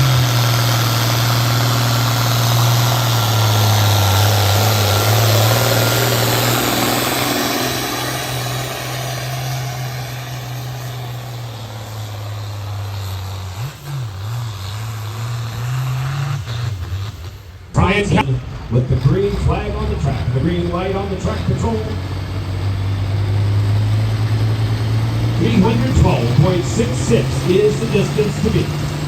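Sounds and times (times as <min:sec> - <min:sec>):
diesel truck engine droning: 0:00.0 - 0:29.0.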